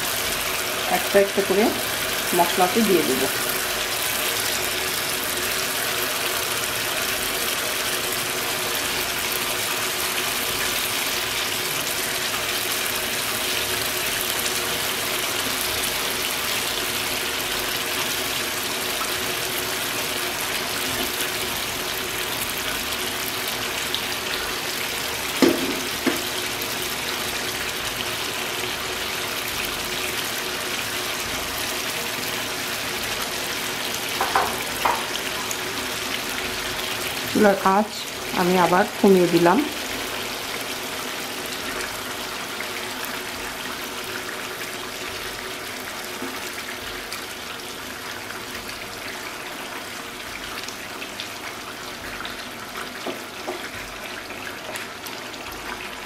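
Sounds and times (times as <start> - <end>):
paste sizzling in a frying pan: 0.0 - 56.0.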